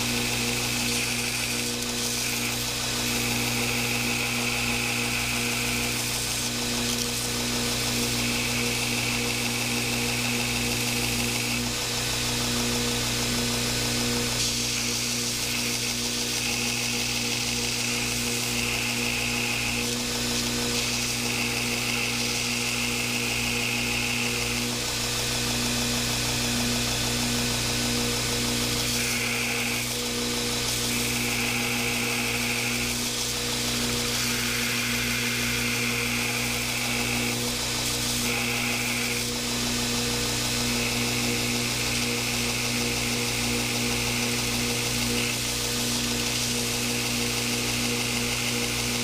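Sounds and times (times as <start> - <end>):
steel grinding on belt: 0.0 - 12.3, 14.2 - 26.5, 28.6 - 49.0
belt grinder motor hum: 0.0 - 49.0.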